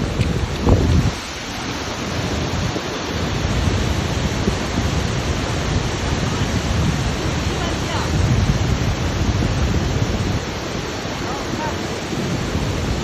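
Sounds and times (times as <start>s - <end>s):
large waterfall roaring: 0.0s - 13.0s.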